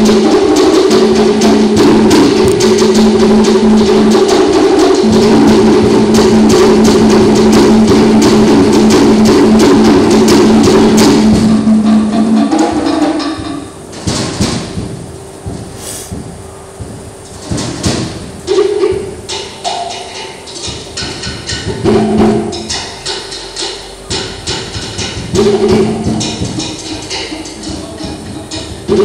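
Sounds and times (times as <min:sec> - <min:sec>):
other drums: 0:00.0 - 0:29.0
slit drums beaten fast: 0:00.0 - 0:29.0.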